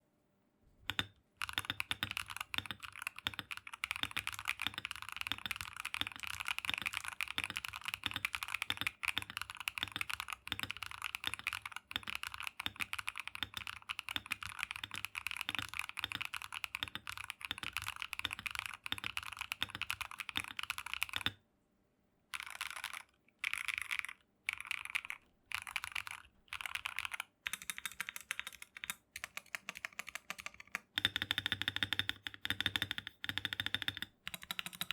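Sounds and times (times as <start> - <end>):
typing on mechanical keyboard: 0.9 - 21.4, 22.3 - 34.9.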